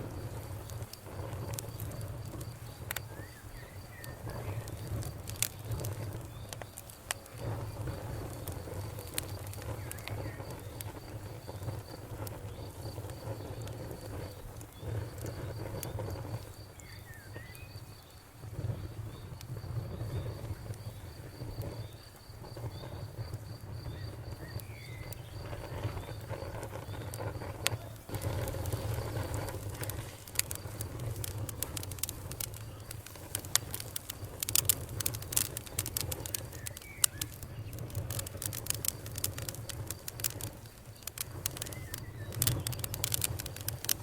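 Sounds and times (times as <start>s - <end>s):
cricket chirping: 0.0s - 44.0s
wood fire crackling: 0.0s - 44.0s.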